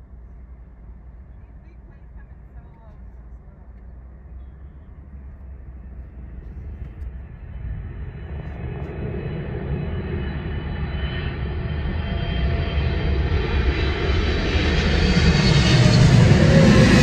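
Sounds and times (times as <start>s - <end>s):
jet airliner engine noise: 0.0s - 17.0s
jet engine whine: 0.0s - 17.0s.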